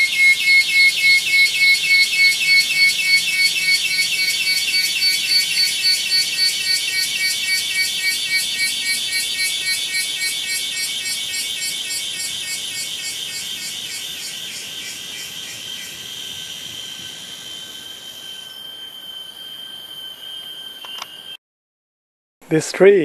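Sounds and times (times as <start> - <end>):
insects pulsing chorus: 0.0 - 21.4.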